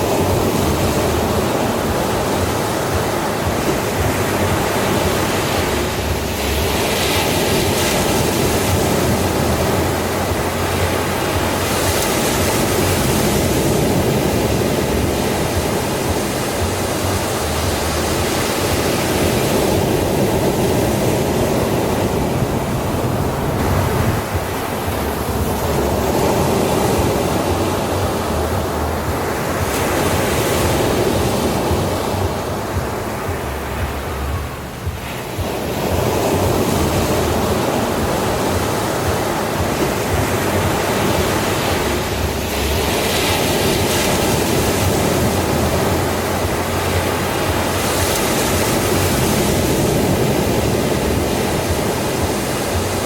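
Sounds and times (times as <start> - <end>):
ocean surf on beach: 0.0 - 53.0.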